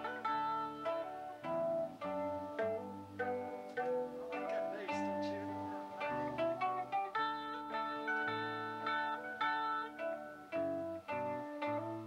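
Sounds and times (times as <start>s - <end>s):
acoustic guitar bluegrass tune: 0.0s - 12.0s.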